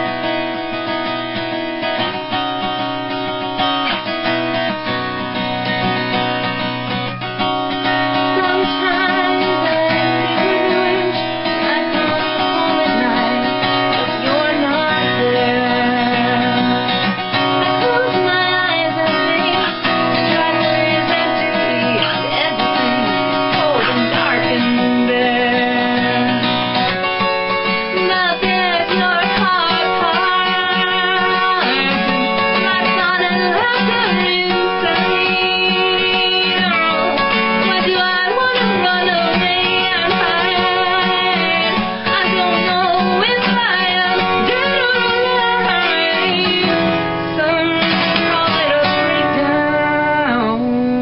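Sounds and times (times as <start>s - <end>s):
strummed acoustic guitar: 0.0s - 51.0s
woman singing folk song: 0.0s - 51.0s.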